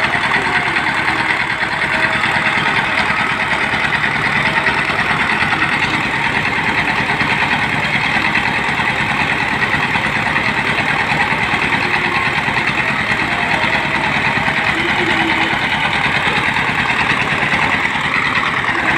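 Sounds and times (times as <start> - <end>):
drilling rig engine running: 0.0 - 18.9.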